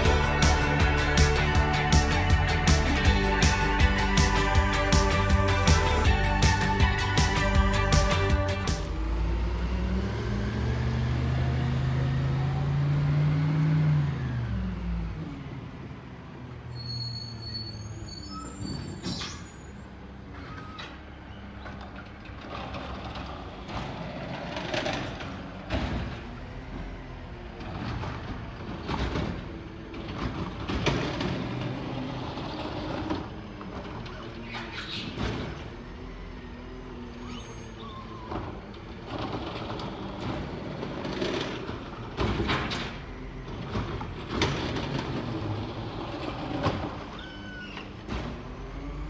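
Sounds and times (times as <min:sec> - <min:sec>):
garbage truck engine revving: 0:00.0 - 0:16.8, 0:20.1 - 0:49.0.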